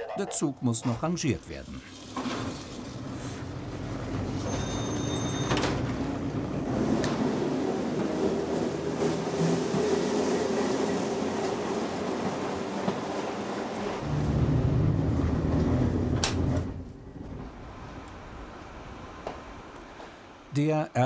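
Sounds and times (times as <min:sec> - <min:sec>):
wheels rumbling on rails: 0:01.8 - 0:20.5
electric train motor hum: 0:02.8 - 0:19.8.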